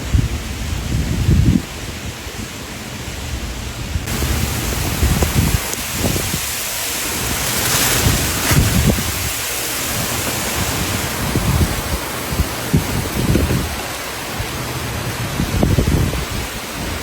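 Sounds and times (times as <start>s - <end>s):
strong wind rushing: 0.0s - 2.6s, 3.4s - 17.0s
wind buffeting microphone: 0.0s - 17.0s.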